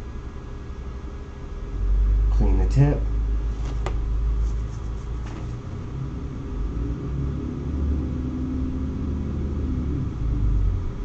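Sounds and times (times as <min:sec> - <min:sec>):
steady low rumble: 0:01.4 - 0:11.0.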